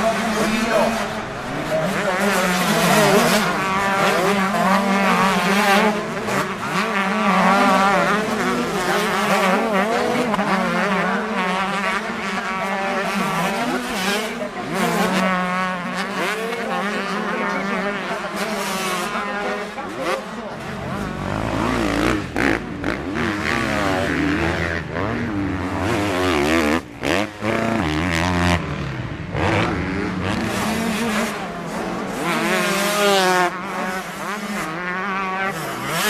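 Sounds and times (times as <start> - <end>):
motocross bikes revving: 0.0 - 36.0.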